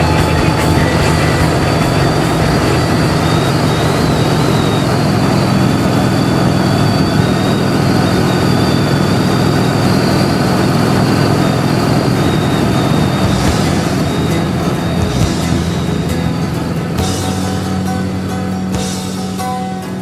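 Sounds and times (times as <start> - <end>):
motorcycle engine running: 0.0 - 20.0
road noise: 0.0 - 20.0.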